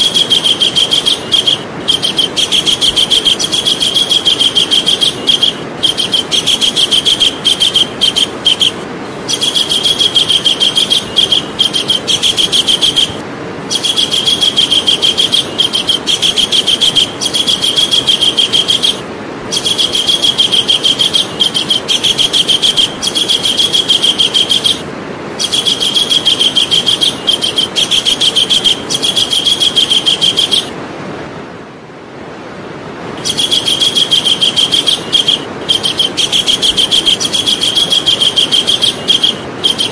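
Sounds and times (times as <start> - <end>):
kingfisher rattling calls: 0.0 - 30.7, 33.2 - 39.9
steady hiss: 0.0 - 39.9.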